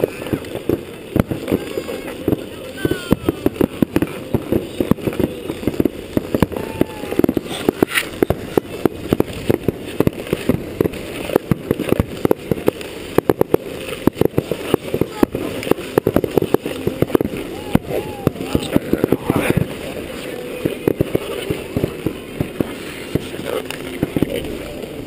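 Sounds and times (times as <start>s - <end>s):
fireworks bangs and pops: 0.0s - 25.0s
people's voices: 0.0s - 25.0s.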